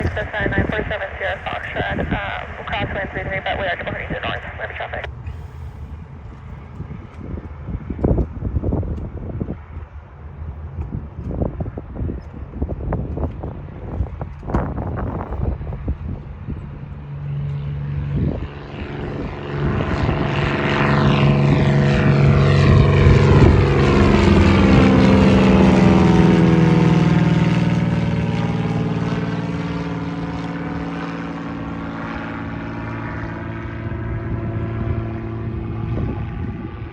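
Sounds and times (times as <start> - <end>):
propeller plane passing by: 0.0 - 36.9.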